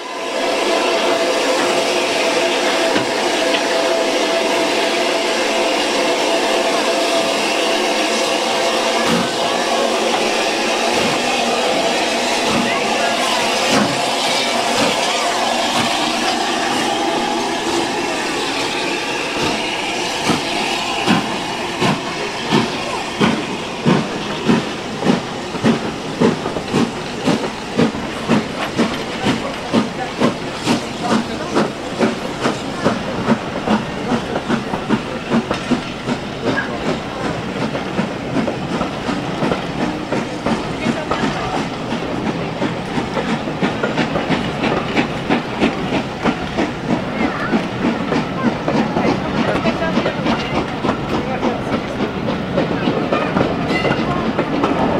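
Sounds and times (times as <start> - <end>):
steam hissing: 0.0 - 54.9
steam locomotive chuffing: 0.0 - 54.9
train wheels clacking over rail joints: 6.5 - 54.9.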